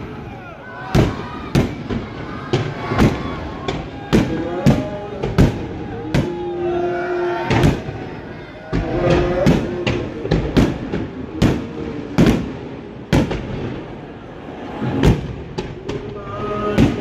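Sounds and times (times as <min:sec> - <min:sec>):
fireworks bursting with sharp bangs: 0:00.0 - 0:06.7, 0:07.4 - 0:17.0.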